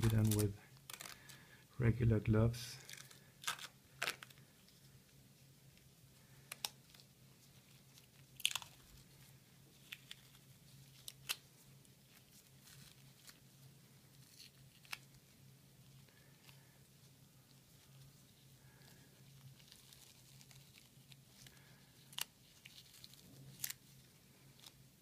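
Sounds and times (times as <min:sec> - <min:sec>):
plastic film crinkling: 0:00.0 - 0:01.6, 0:02.7 - 0:05.1, 0:05.7 - 0:25.0
faint low hum: 0:00.0 - 0:25.0.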